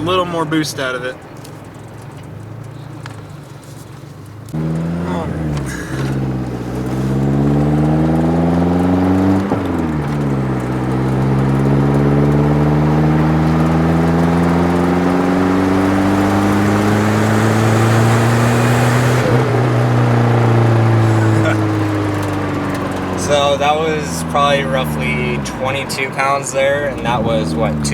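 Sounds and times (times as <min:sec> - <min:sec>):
turbo engine accelerating hard: 0:02.6 - 0:27.9.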